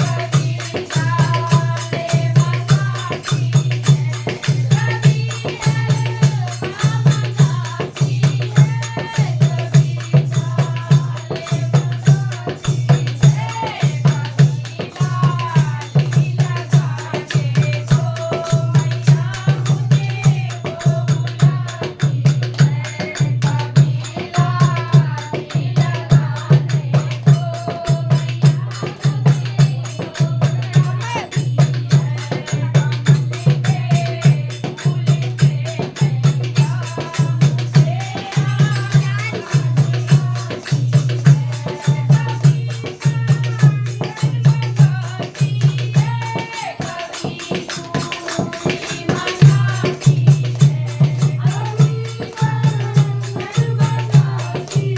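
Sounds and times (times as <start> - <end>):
rattling percussion: 0.0 - 54.9
steady drum beat: 0.0 - 54.9.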